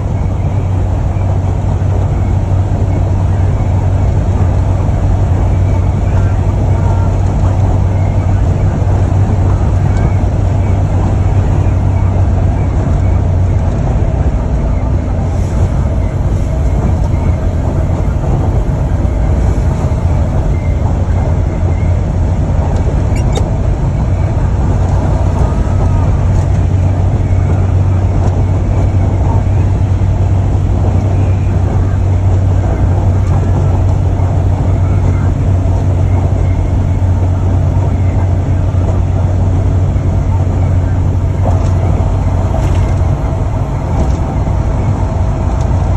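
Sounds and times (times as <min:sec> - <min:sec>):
vehicle road noise rumble: 0:00.0 - 0:45.9.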